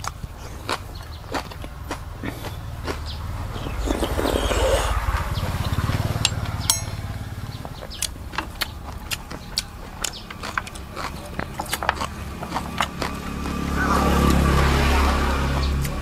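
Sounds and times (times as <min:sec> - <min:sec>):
chewing crunchy vegetables: 0:00.0 - 0:06.7, 0:07.5 - 0:16.0.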